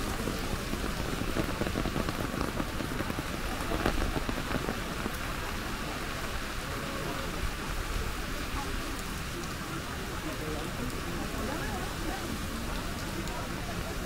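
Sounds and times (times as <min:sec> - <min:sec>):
rain pattering on an umbrella: 0:00.0 - 0:14.0.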